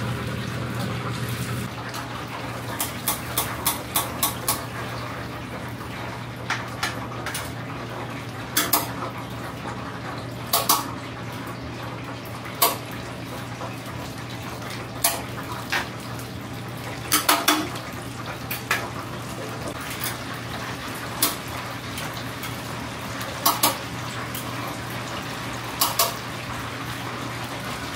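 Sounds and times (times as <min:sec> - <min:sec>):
chicken frying in oil: 0:00.0 - 0:27.9.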